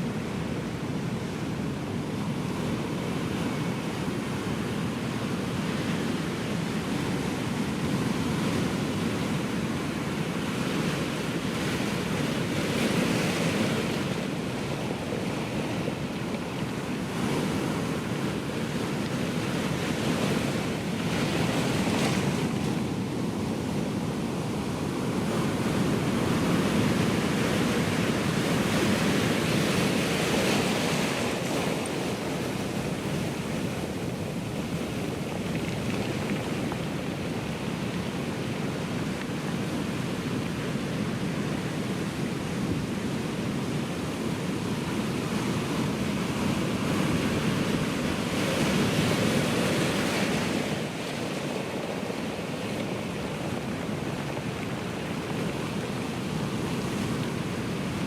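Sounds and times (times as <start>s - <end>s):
ocean waves breaking: 0.1s - 58.0s.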